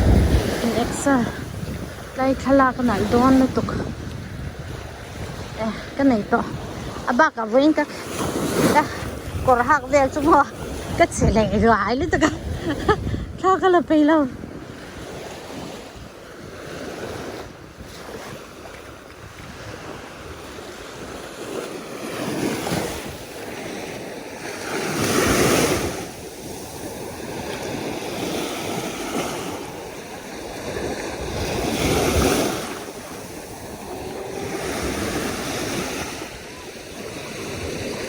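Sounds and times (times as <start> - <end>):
sea waves breaking on beach: 0.0 - 38.0
wind buffeting microphone: 0.0 - 38.0.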